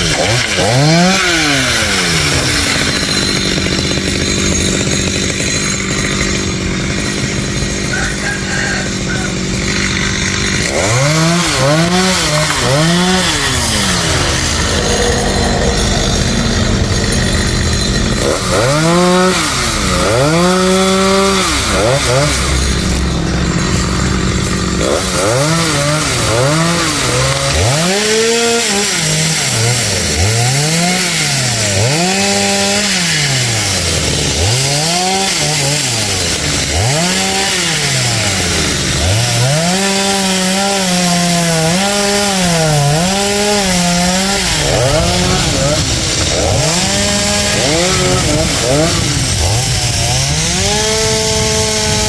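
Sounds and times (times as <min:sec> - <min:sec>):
chainsaw cutting wood revving: 0:00.0 - 0:52.0.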